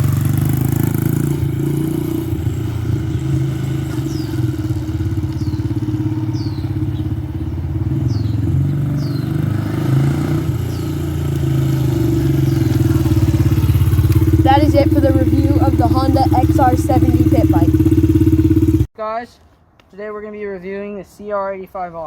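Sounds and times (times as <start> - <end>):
motorbike engine running: 0.0 - 18.9.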